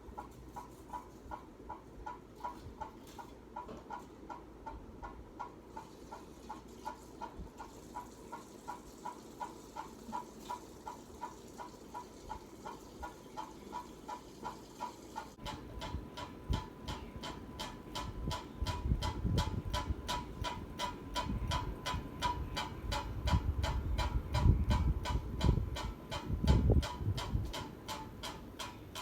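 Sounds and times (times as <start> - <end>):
ceiling fan running: 0.0 - 29.0
fan ticking: 0.0 - 29.0.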